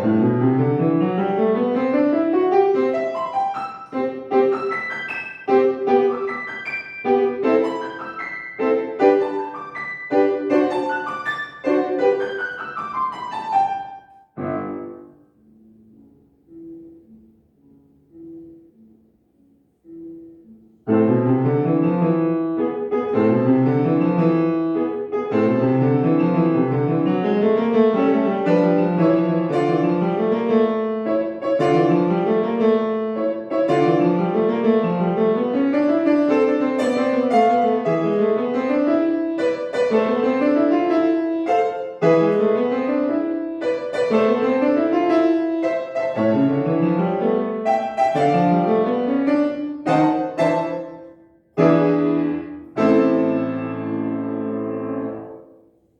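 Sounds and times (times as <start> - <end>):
solo piano piece: 0.0 - 55.9.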